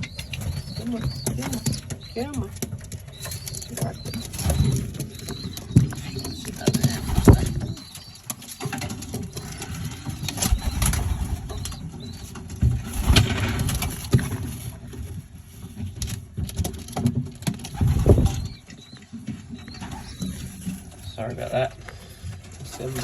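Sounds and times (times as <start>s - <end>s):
pigeons cooing: 0.0s - 14.9s, 17.4s - 23.0s.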